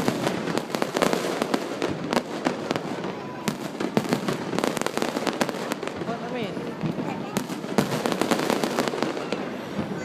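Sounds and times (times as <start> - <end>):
fireworks bangs and crackling pops: 0.0 - 10.0.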